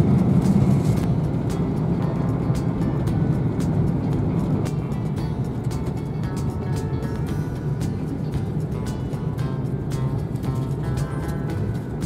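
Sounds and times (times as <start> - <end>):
background music: 0.0 - 12.0
high-speed train rumble: 0.0 - 12.0.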